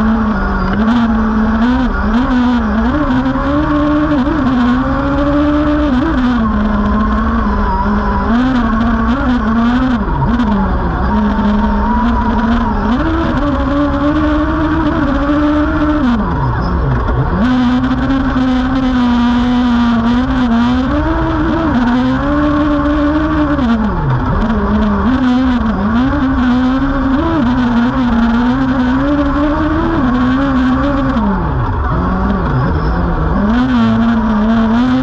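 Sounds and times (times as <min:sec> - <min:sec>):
motorcycle engine revving under load: 0:00.0 - 0:35.0.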